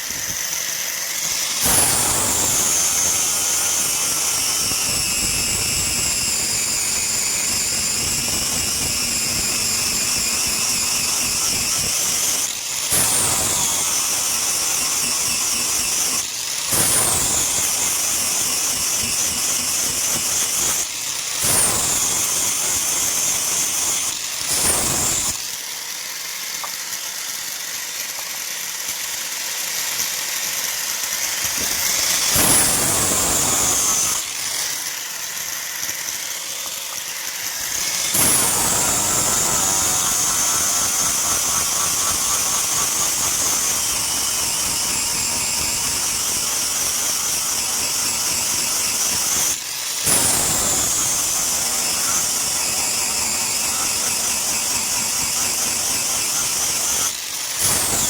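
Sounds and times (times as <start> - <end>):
power grinder grinding steel: 0.0 - 58.0.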